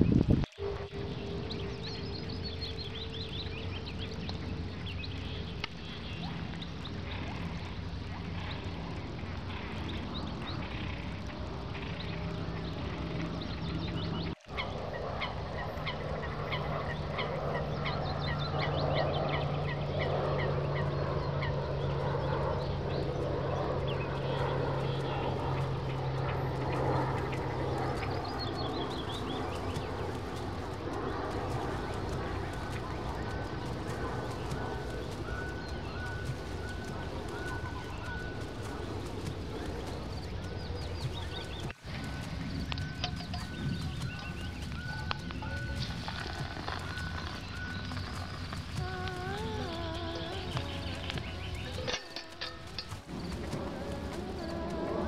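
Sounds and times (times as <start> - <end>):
birds calling: 0.0 - 55.0
steady low hum: 0.0 - 55.0.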